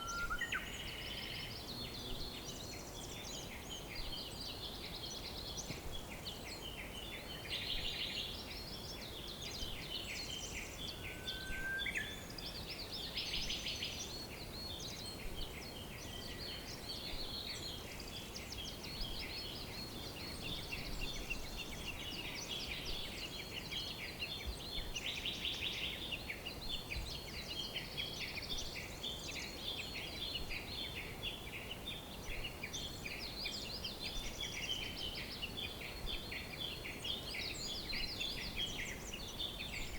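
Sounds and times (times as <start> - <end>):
faint steady hiss: 0.0 - 39.9
small birds chirping and trilling: 0.0 - 39.9.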